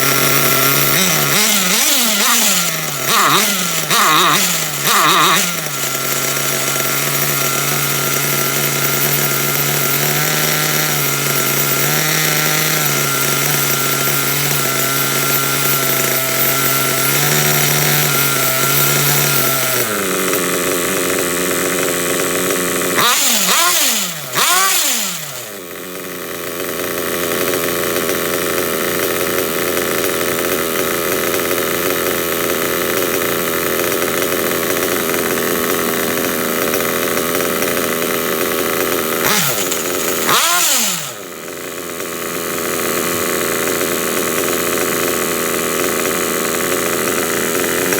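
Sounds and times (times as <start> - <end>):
small model engine idling: 0.0 - 47.9.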